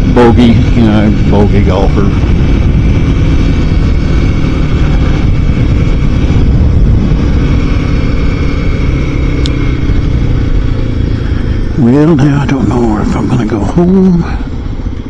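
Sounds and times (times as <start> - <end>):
motorcycle engine cruising: 0.0 - 15.0
wind rushing: 0.0 - 15.0.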